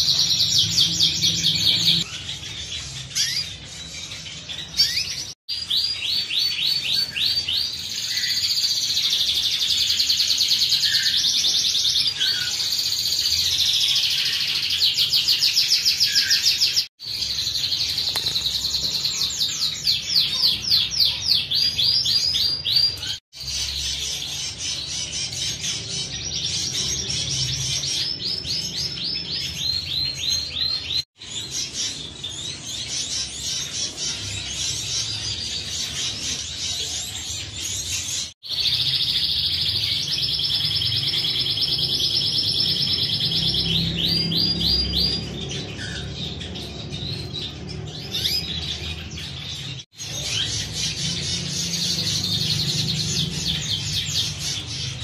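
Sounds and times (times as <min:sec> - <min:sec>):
canaries singing trills: 0:00.0 - 0:55.0.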